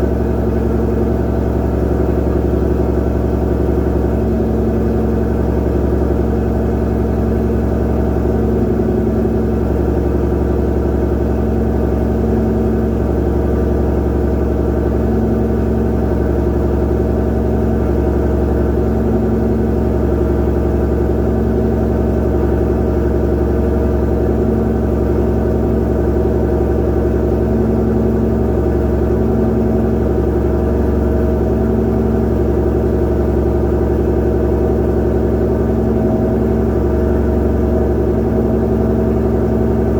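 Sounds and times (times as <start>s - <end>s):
car engine idling loudly: 0.0s - 39.9s.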